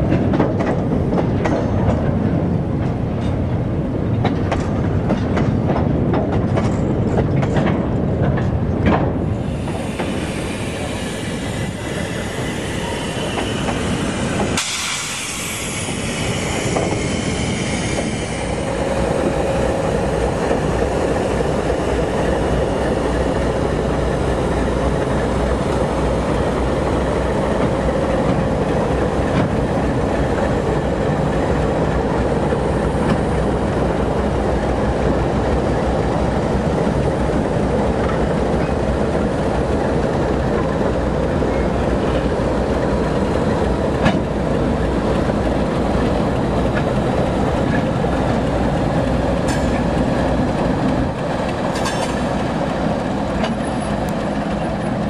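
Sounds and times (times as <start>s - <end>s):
diesel locomotive engines running: 0.0s - 55.0s
wheels rumbling on rail: 0.0s - 55.0s.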